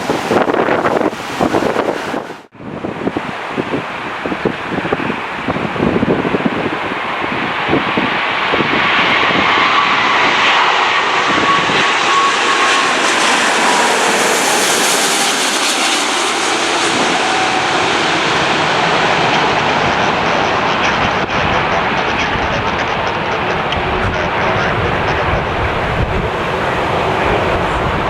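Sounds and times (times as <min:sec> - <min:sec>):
jet airliner passing: 0:00.0 - 0:28.0.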